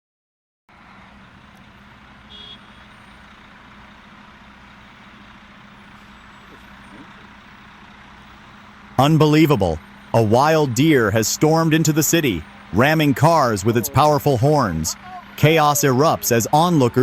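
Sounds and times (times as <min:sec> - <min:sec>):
street traffic: 0:00.7 - 0:17.0.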